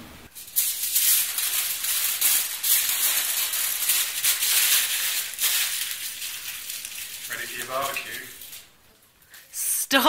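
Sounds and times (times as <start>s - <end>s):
aluminium foil crinkling: 0.3s - 9.5s.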